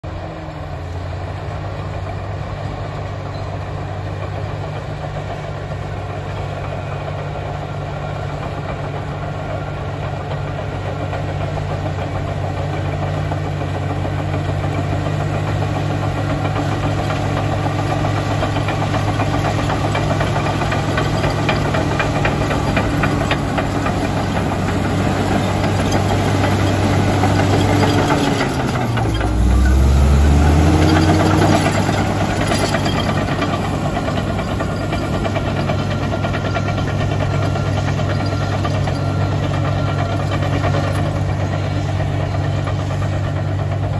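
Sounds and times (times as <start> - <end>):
diesel engine running under load: 0.0 - 43.9
steel tracks clattering: 1.1 - 43.9.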